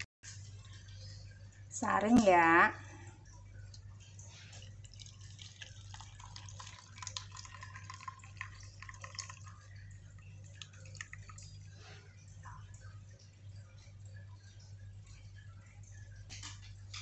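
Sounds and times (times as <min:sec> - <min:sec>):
liquid dripping through strainer: 0:00.3 - 0:17.0.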